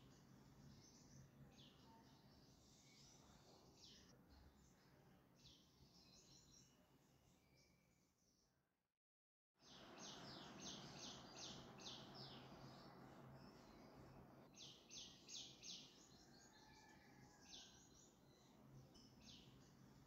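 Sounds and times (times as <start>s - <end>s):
faint birds chirping: 0.0s - 8.6s, 9.6s - 20.0s.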